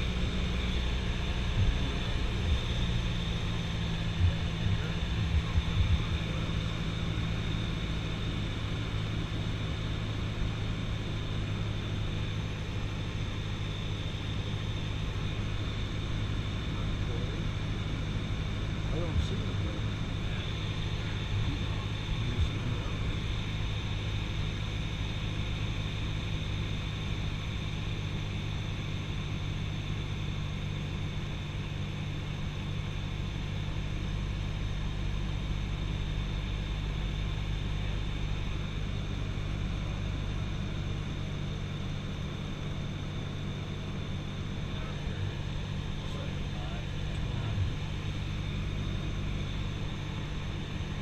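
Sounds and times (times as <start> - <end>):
airplane engine droning in cabin: 0.0 - 51.0.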